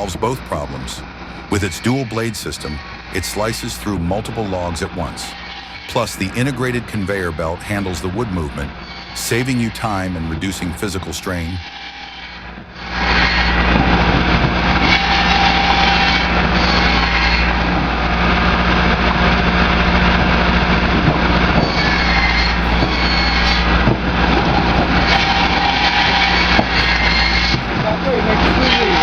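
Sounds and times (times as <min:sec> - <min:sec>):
firewood processing machine running: 0:00.0 - 0:29.0.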